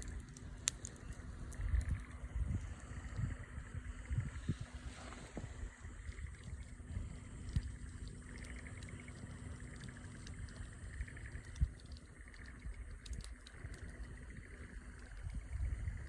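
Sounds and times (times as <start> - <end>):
wind on microphone: 0.0 - 9.3, 9.9 - 16.0.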